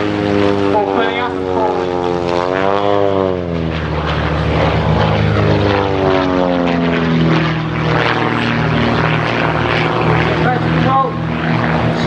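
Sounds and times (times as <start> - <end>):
propeller plane engines at high power: 0.0 - 12.0.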